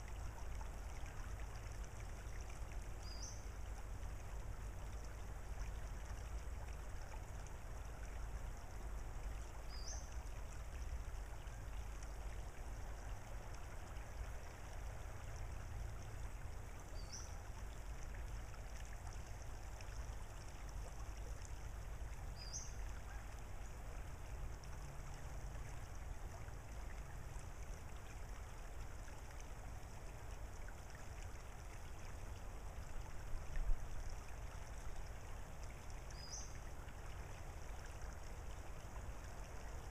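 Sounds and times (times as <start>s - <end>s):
creek babbling over gravel: 0.0s - 39.9s.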